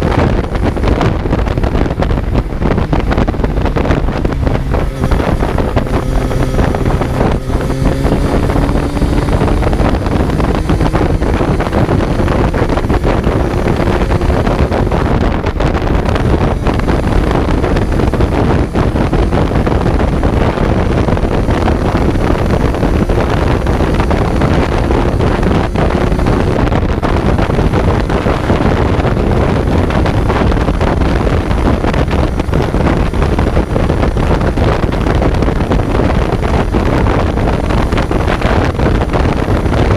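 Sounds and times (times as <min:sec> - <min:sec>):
motorcycle engine at road speed: 0:00.0 - 0:39.9
wind noise on microphone: 0:00.0 - 0:39.9.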